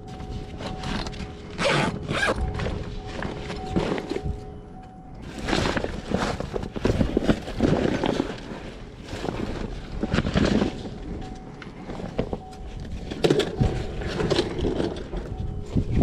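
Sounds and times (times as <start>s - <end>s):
trash being rummaged through: 0.0s - 16.0s.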